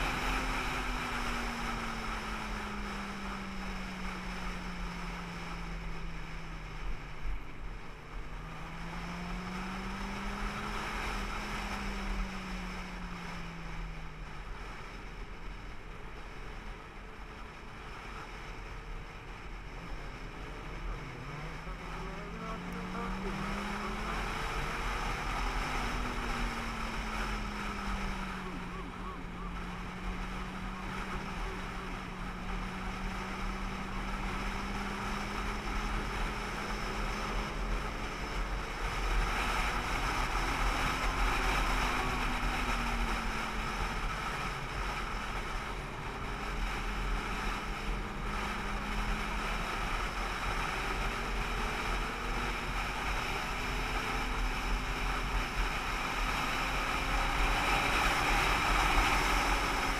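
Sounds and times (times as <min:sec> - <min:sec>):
vehicle engine running: 0:00.0 - 0:59.9
wind and road noise: 0:00.0 - 0:59.9.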